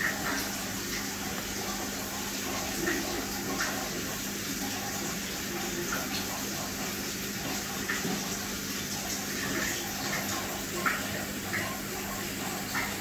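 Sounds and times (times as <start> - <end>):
aquarium water running: 0.0 - 13.0
low pump hum: 0.0 - 13.0.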